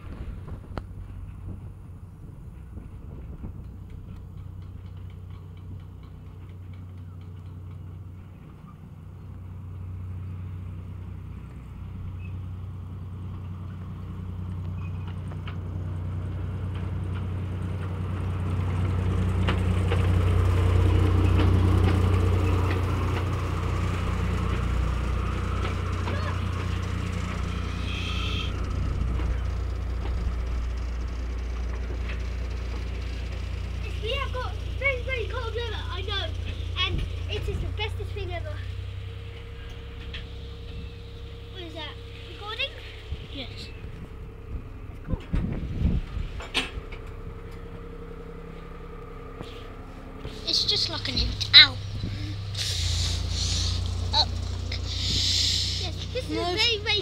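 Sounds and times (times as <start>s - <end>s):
locomotive engine running: 0.0s - 57.0s.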